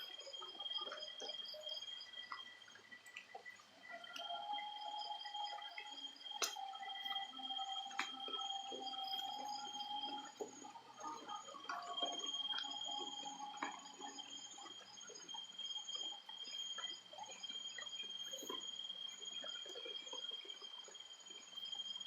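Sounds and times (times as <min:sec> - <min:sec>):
high pulsing insect chirp: 0:00.0 - 0:22.0
insects droning: 0:00.0 - 0:22.0.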